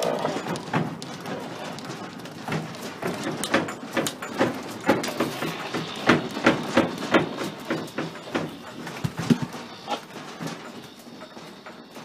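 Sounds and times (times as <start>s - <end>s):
sharp knocks and rattles: 0.0s - 12.0s.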